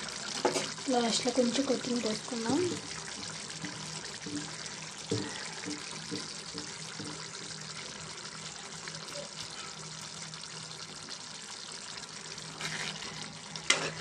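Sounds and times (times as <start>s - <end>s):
curry simmering in a pan: 0.0s - 14.0s.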